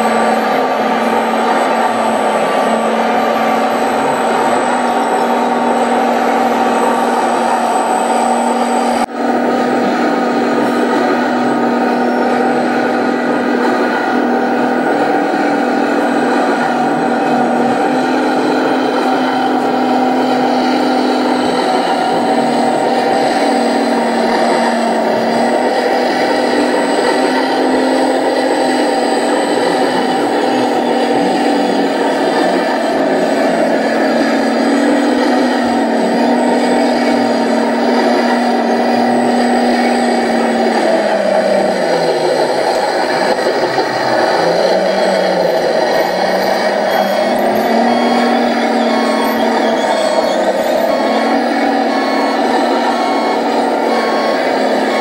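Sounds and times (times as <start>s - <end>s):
diesel engine sound from speaker: 0.0s - 55.0s.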